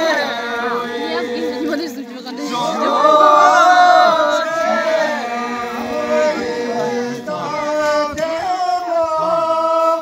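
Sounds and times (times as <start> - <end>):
group of voices chanting: 0.0 - 10.0.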